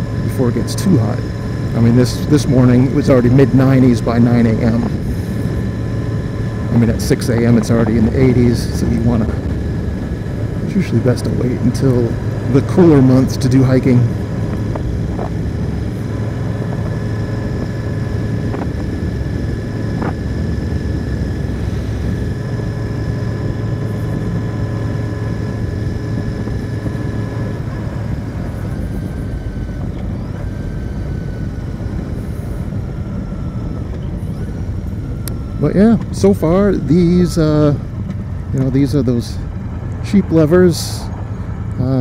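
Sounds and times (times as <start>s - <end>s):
motorcycle engine cruising: 0.0s - 42.0s
wind rush: 1.2s - 36.0s.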